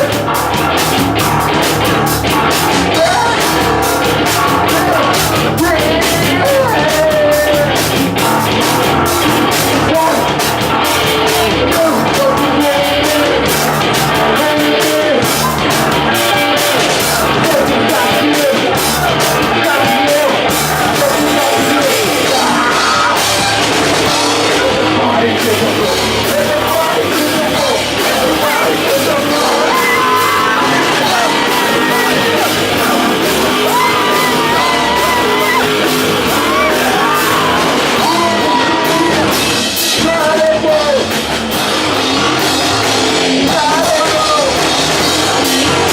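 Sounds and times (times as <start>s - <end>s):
person singing and yelling: 0.0s - 41.2s, 41.9s - 45.9s
live rock band playing: 0.0s - 45.9s.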